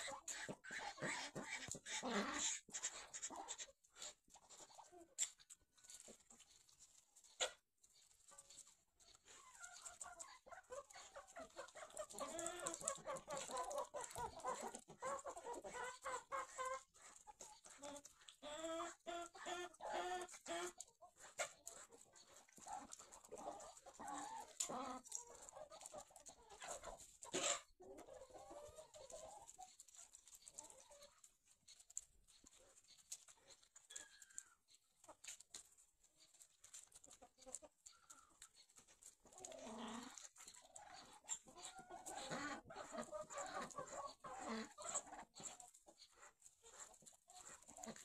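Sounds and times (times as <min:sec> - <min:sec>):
hens clucking: 0:00.0 - 0:48.0.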